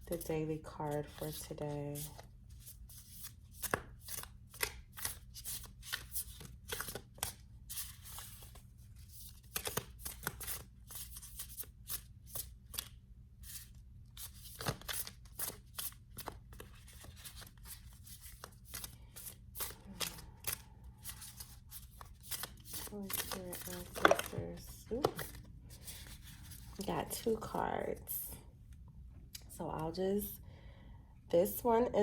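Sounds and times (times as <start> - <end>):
cards being shuffled by hand: 1.0 - 27.2.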